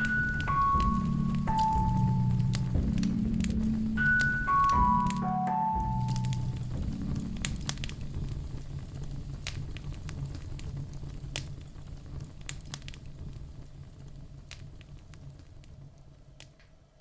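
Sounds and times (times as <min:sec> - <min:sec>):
log fire crackling: 0:00.0 - 0:17.0.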